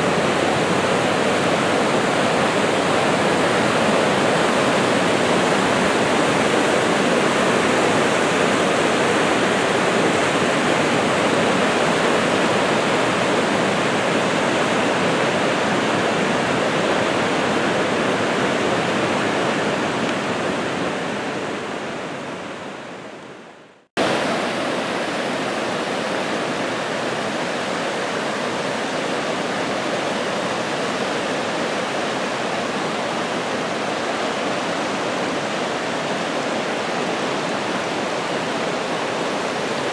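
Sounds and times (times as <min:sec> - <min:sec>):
rushing floodwater: 0:00.0 - 0:39.9.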